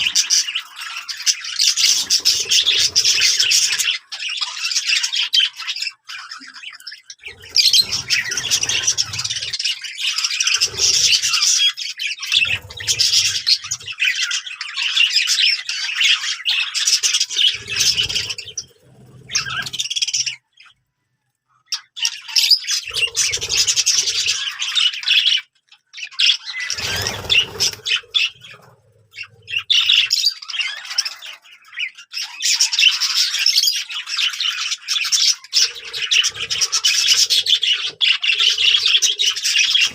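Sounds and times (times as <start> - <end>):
budgerigars chattering: 0.0 - 20.7, 21.7 - 39.9.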